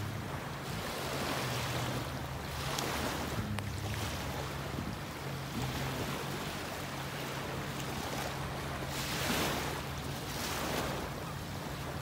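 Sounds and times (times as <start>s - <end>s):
low steady drone: 0.0s - 10.3s
small waves washing on sand: 0.0s - 12.0s.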